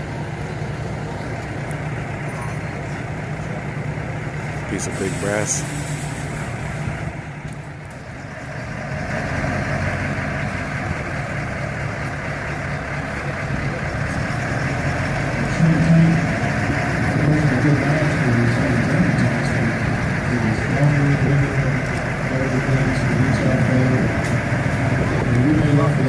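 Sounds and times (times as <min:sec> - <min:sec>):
tank engine running: 0:00.0 - 0:26.0.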